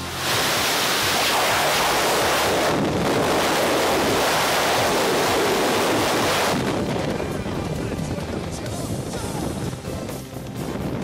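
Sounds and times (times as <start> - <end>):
wind buffeting microphone: 0.3 - 11.0.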